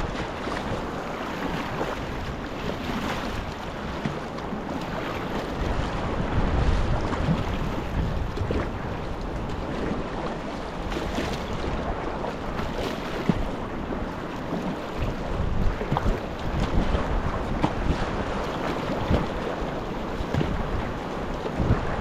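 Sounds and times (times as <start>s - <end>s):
sea water splashing around kayak: 0.0s - 22.0s
wind noise on microphone: 0.0s - 22.0s.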